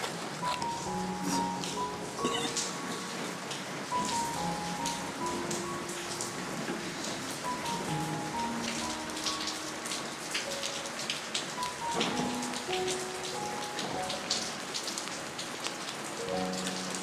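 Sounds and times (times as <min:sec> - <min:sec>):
rain drops ticking on pots: 0:00.0 - 0:17.0
soft background music: 0:00.0 - 0:17.0.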